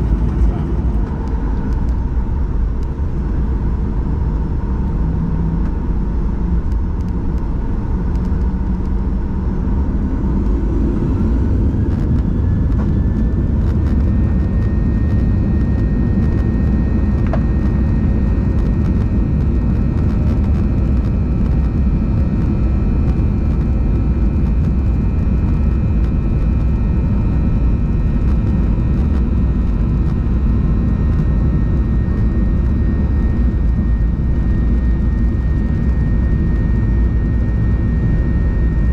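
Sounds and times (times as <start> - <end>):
jet engine rumble in cabin: 0.0 - 38.9
jet engine whine: 0.0 - 38.9.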